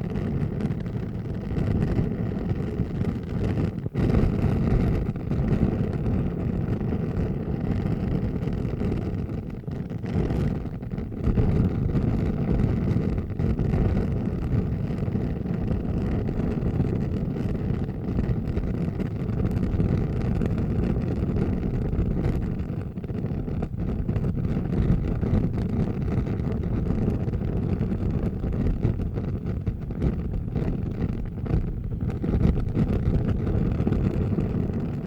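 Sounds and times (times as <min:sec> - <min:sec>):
faint fire crackling: 0:00.0 - 0:35.0
large fire burning: 0:00.0 - 0:35.0.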